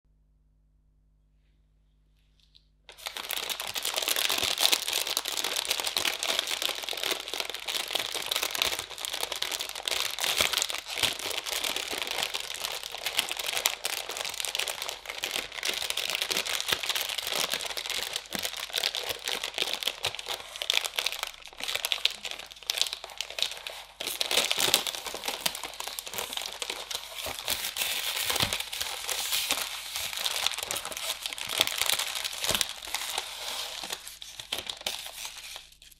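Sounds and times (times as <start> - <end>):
plastic packaging crinkling: 2.4 - 35.9.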